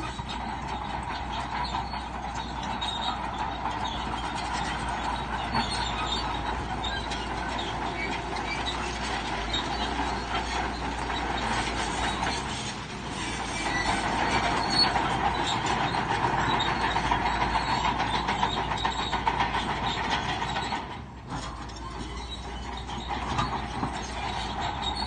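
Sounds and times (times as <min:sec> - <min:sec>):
bulldozer engine running: 0:00.0 - 0:25.0
steel tracks squealing and clattering: 0:00.0 - 0:25.0.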